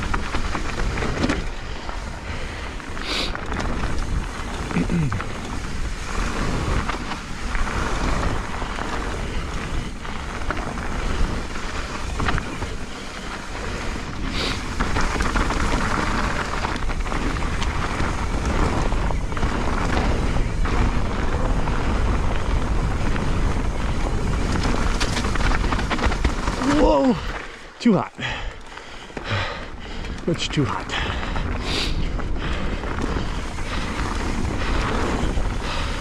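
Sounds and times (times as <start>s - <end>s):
wind rushing over microphone: 0.0s - 28.6s, 29.6s - 36.0s
bike knocking and rattling: 0.0s - 36.0s
tyres on wet dirt: 0.0s - 36.0s.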